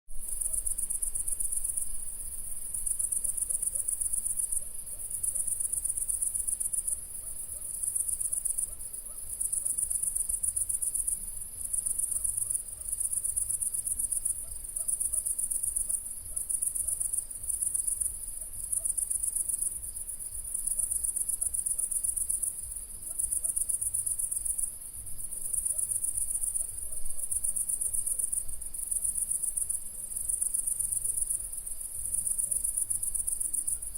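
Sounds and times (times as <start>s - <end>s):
crickets trilling: 0.2s - 33.9s.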